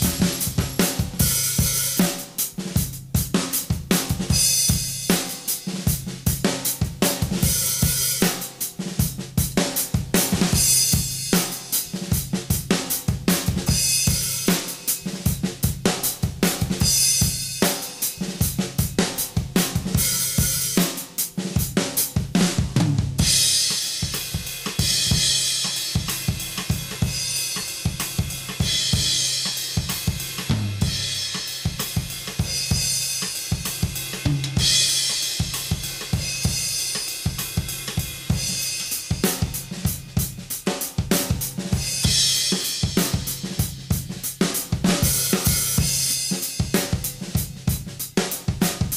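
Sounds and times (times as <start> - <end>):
drum kit groove: 0.0 - 48.9.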